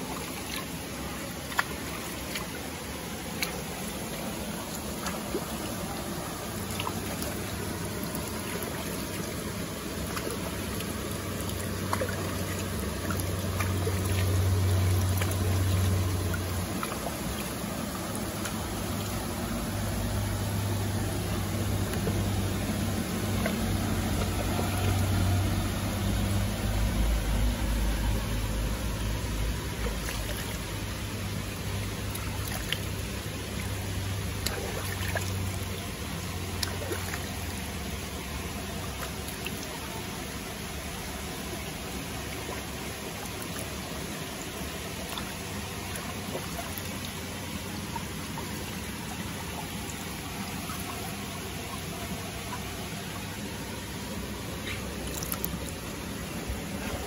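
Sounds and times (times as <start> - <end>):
low steady hum: 0.0 - 57.0
river water running and trickling: 0.0 - 57.0.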